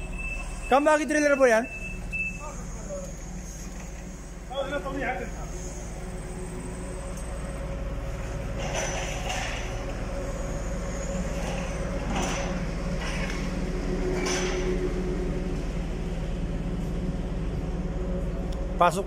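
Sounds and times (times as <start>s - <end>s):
forklift mechanical hum: 0.0s - 19.0s.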